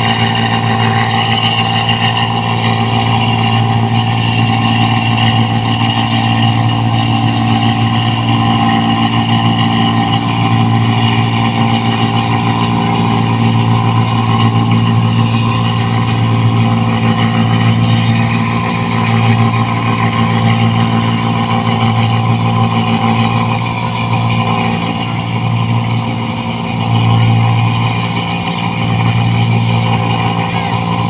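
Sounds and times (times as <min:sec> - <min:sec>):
diesel engine with loud exhaust: 0:00.0 - 0:31.0.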